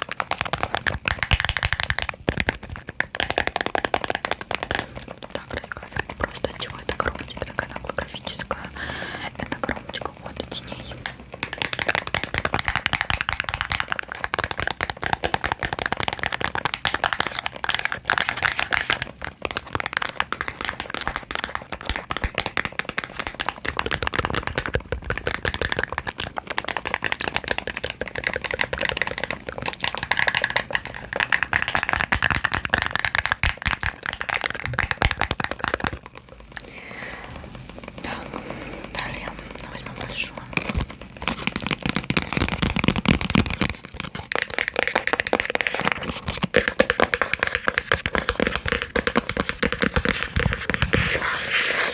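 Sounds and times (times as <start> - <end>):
tapping on small boxes: 0.0 - 7.6, 11.0 - 36.6, 40.0 - 51.2.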